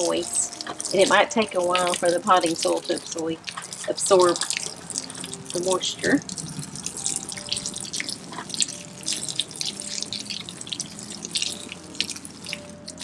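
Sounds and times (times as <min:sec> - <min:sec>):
hose water splashing on soil: 0:00.0 - 0:13.0.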